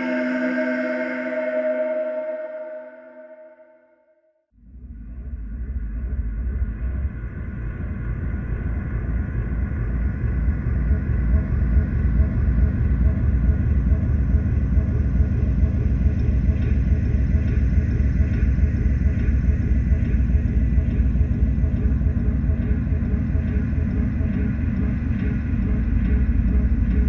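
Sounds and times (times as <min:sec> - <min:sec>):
deep rumbling drone: 0:04.6 - 0:27.0.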